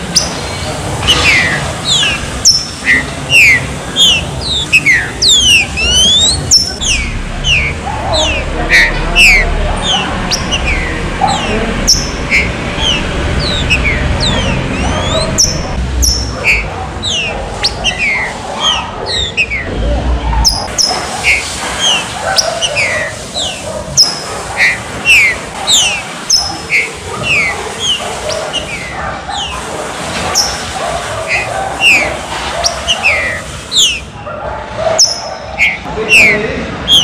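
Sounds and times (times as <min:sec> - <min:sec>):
birds whistling: 0:00.0 - 0:34.2, 0:34.8 - 0:37.0.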